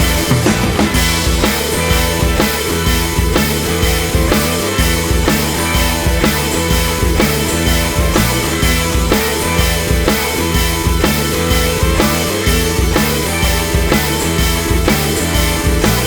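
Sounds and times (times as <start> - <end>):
rock music with drums: 0.0 - 16.0.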